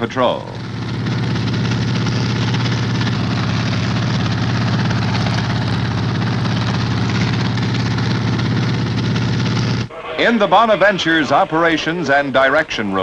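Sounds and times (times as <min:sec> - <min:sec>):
helicopter engine and rotor: 0:00.0 - 0:12.8.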